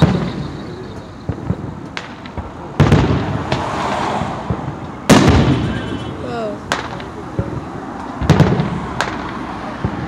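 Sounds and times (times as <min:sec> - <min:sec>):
loud firework boom: 0:00.0 - 0:09.2
firework pops: 0:00.0 - 0:10.0.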